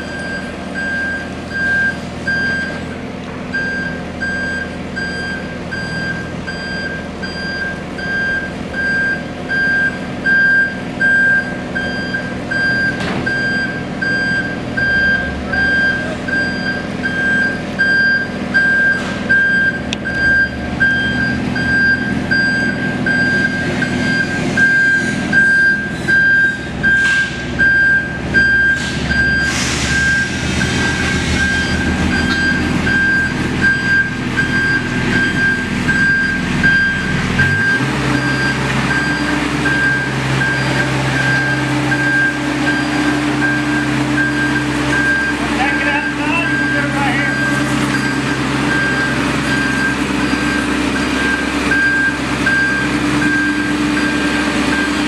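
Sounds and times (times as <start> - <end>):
excavator travel alarm beeping: 0.0 - 2.9, 3.5 - 55.0
diesel engine running: 0.0 - 55.0.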